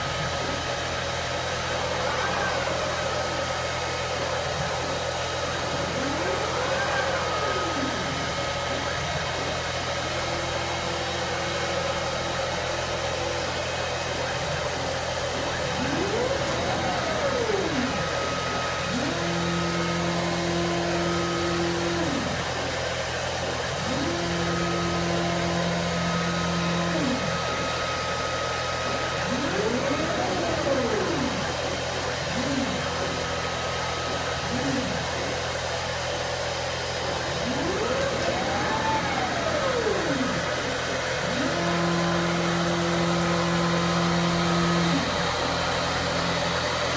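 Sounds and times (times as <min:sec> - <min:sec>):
gantry drive motors whining: 0:00.0 - 0:46.9
steady machine hum: 0:00.0 - 0:46.9.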